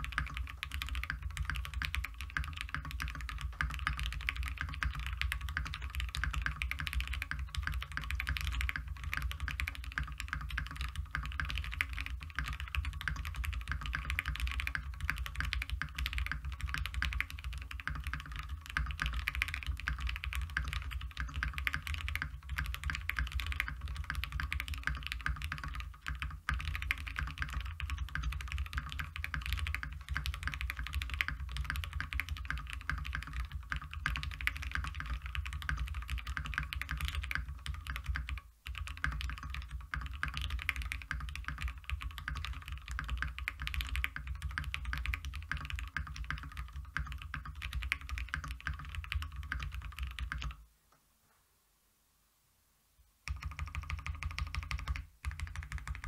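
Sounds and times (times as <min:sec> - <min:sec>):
mechanical keyboard typing: 0:00.0 - 0:50.6, 0:53.3 - 0:56.0.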